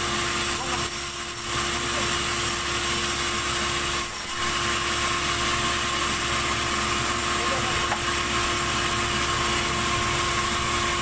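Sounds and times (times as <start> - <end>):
band saw humming and whining: 0.0 - 11.0.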